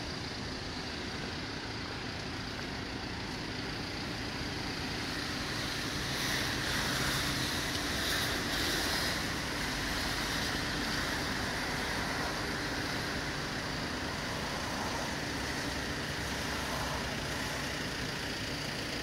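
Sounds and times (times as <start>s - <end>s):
traffic rumbling: 0.0s - 19.0s.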